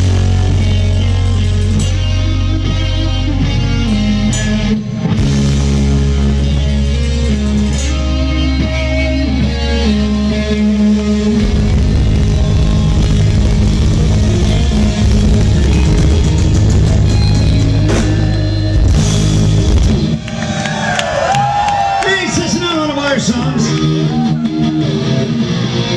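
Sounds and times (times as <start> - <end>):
live rock band playing: 0.0 - 25.9.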